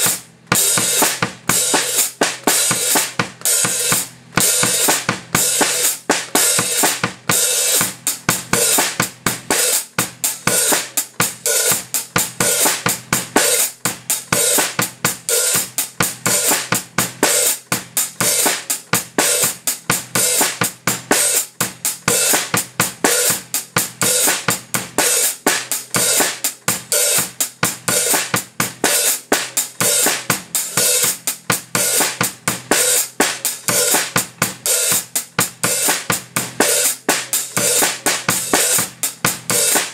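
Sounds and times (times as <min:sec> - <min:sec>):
drum kit playing a groove: 0:00.0 - 0:39.9.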